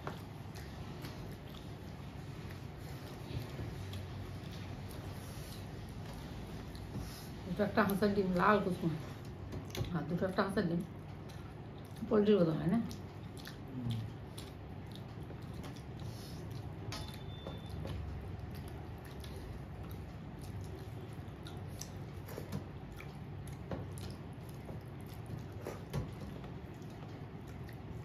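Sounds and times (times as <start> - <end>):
person chewing: 0.0 - 7.0, 11.0 - 12.0, 12.9 - 28.0
low steady hum: 0.0 - 28.0.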